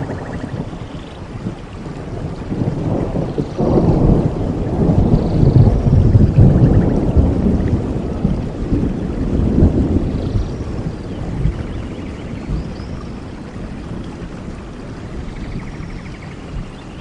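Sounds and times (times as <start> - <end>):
rain falling: 0.0 - 17.0
thunder rumbling: 0.0 - 17.0.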